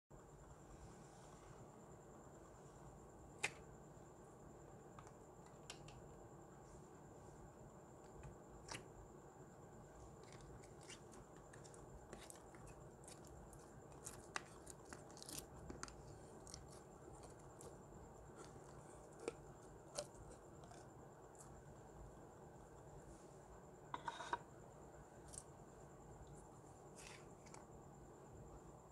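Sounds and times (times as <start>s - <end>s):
low steady hiss: 0.1s - 28.9s.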